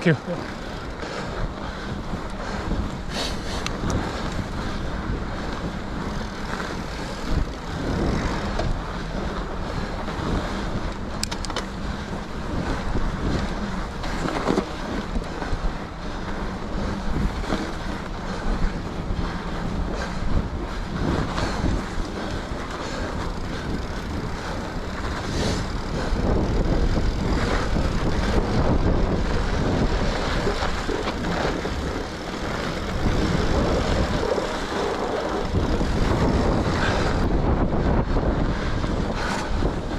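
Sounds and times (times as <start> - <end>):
bike rattling: 0.0 - 39.9
bike tyres rolling on snow: 0.0 - 39.9
wind noise on microphone: 0.0 - 39.9.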